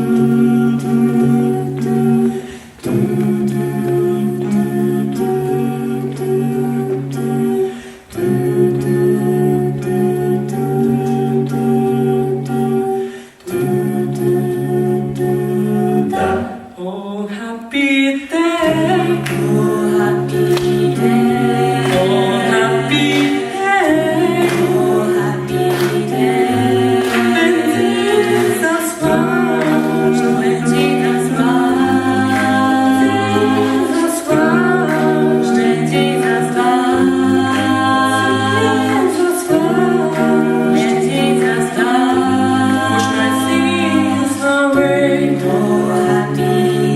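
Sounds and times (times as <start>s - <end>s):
bass voices holding low notes: 0.0s - 16.6s, 18.6s - 46.9s
a cappella group singing: 0.0s - 46.9s.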